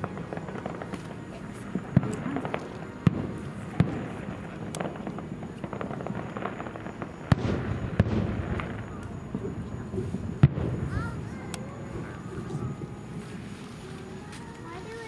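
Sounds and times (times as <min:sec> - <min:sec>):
fireworks bursting with bangs: 0:00.0 - 0:15.0
fireworks crackling: 0:00.0 - 0:15.0.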